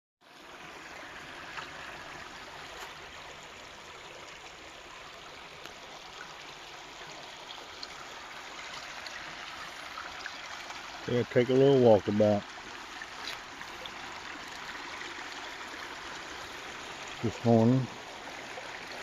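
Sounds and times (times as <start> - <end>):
creek water over rocks: 0.2 - 19.0.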